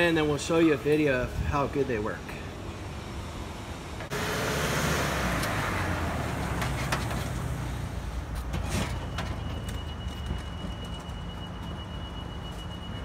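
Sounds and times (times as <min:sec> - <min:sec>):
van engine low rumble: 0:00.0 - 0:13.0.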